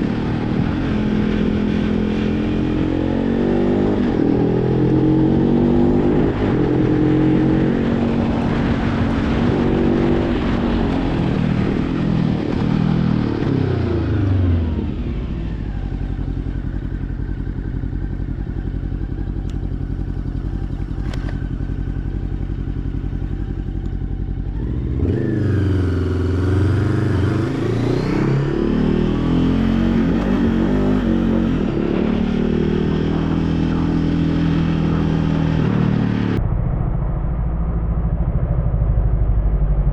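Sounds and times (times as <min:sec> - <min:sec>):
motorcycle engine revving: 0:00.0 - 0:36.5.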